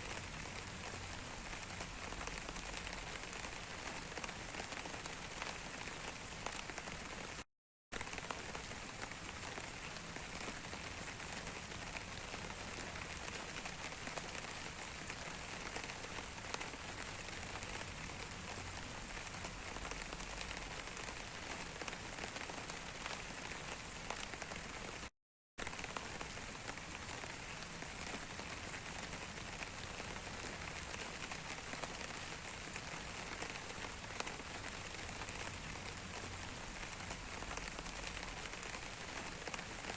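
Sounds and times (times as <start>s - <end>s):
rain falling: 0.0s - 7.4s, 8.0s - 39.9s.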